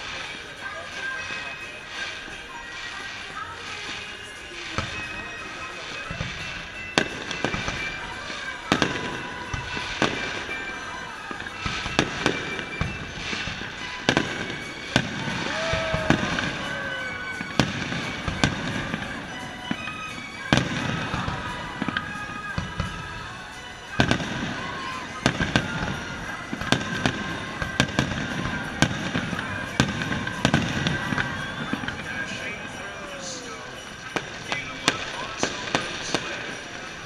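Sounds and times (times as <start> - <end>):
firework shells bursting with bangs: 0.0 - 37.0
firework whistle: 0.0 - 37.0.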